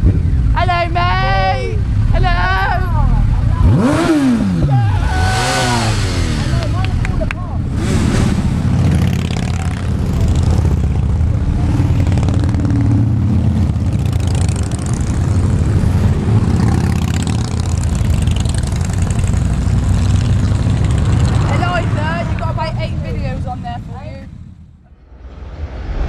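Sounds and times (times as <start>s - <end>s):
vehicle engines rumbling: 0.0s - 26.0s.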